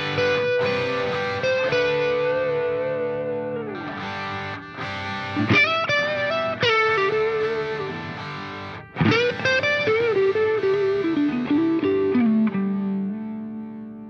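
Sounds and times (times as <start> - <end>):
electric guitar melody: 0.0 - 14.0.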